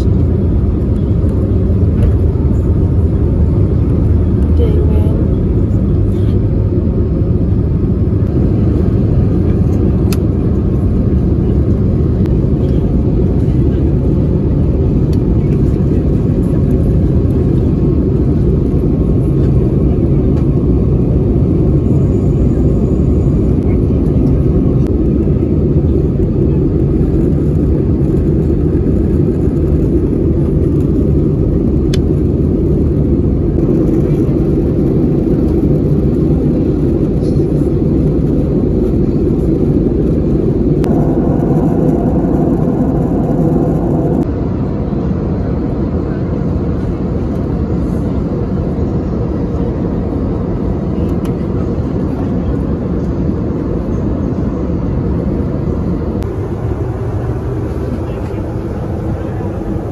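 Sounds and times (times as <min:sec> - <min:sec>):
airplane cabin noise: 0:00.0 - 0:59.9.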